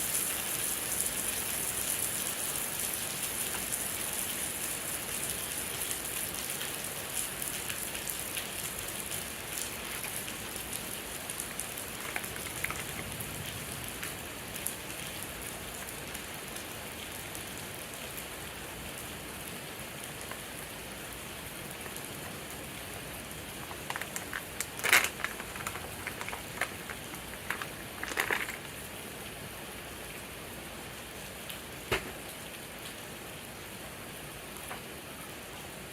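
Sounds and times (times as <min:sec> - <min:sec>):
steady rain hiss: 0:00.0 - 0:35.9.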